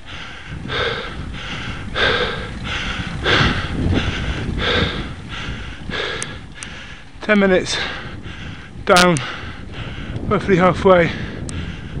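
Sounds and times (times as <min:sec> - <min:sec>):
person panting: 0:00.0 - 0:10.3, 0:11.1 - 0:12.0.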